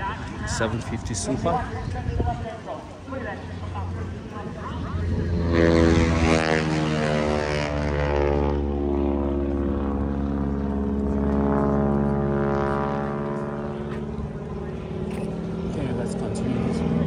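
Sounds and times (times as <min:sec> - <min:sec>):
propeller airplane drone: 0:00.0 - 0:17.0.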